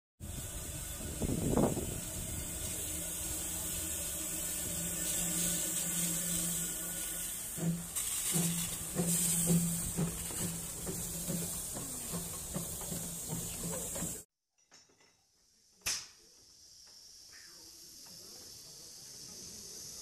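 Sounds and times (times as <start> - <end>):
steam hissing: 0.2 - 14.3, 16.2 - 20.0.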